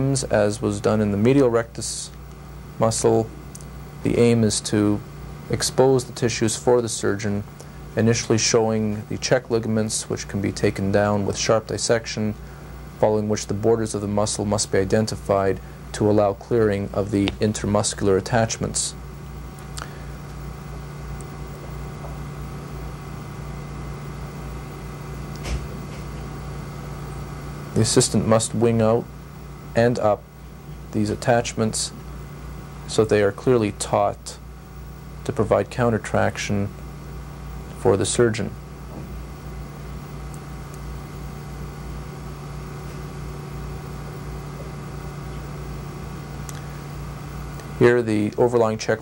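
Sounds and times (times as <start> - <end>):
low background hum: 0.0 - 49.0.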